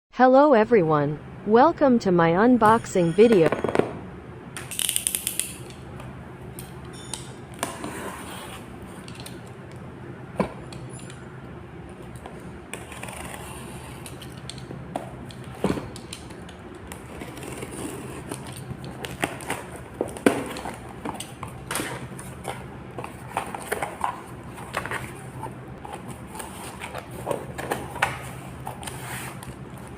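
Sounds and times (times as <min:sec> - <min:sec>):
steady low hum: 0:00.1 - 0:29.9.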